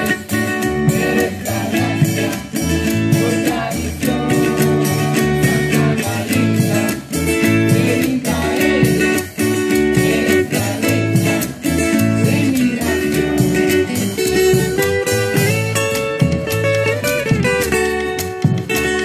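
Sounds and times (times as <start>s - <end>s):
strummed guitars folk music: 0.0s - 19.0s.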